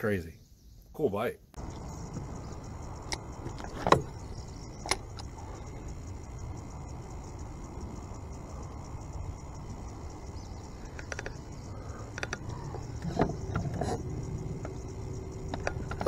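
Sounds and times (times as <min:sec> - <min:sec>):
fishing reel cranking rumble: 0:01.6 - 0:16.0.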